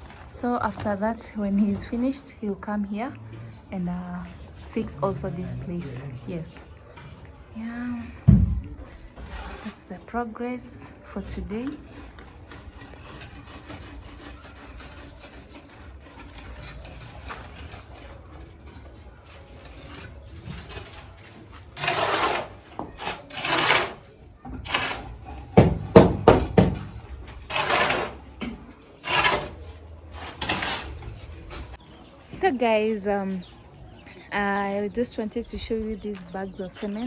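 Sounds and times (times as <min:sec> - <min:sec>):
rough scraping and rubbing: 0:00.0 - 0:31.9.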